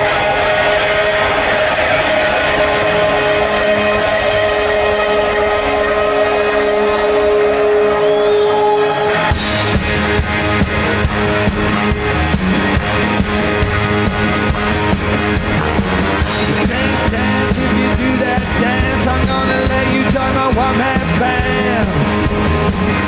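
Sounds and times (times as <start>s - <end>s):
drums: 0.0s - 23.0s
rock band playing live: 0.0s - 23.0s.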